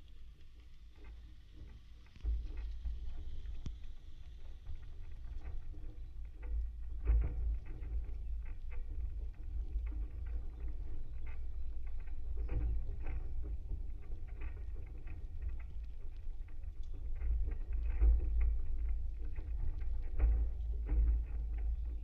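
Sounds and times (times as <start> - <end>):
soft taps and creaks: 0.0 - 22.0.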